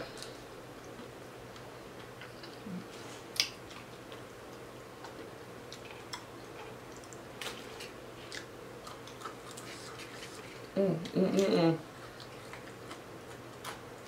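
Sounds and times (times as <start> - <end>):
faint steady hum: 0.0 - 14.0
person chewing crispy food: 0.1 - 10.8, 11.8 - 14.0.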